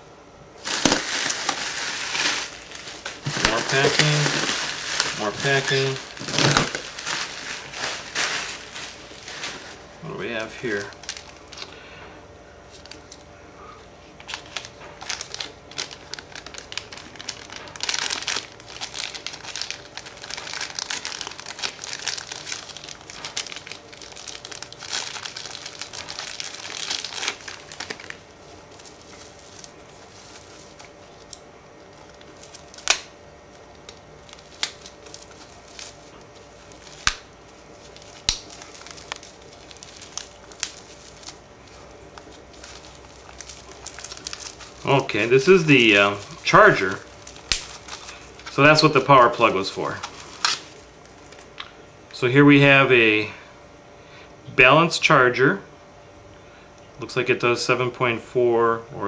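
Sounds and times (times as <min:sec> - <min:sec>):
packing material crinkling: 0:00.6 - 0:11.9, 0:12.6 - 0:13.2, 0:14.2 - 0:51.6.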